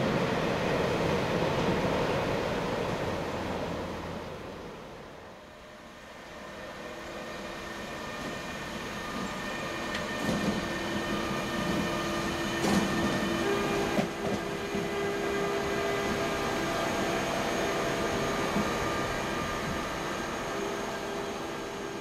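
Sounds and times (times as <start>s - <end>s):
electric locomotive whine: 0.0s - 22.0s.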